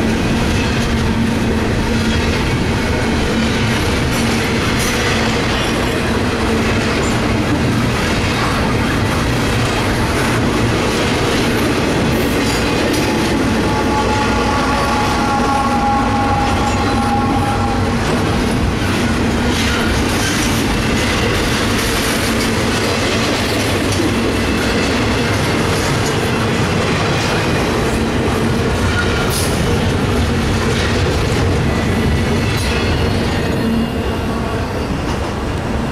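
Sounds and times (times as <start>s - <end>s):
freight train wheels rumbling: 0.0s - 35.9s.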